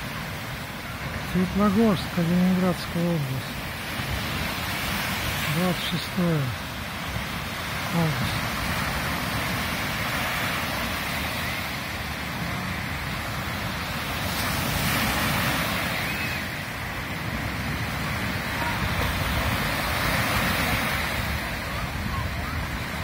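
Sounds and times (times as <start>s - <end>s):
waves breaking on sandy beach: 0.0s - 23.0s.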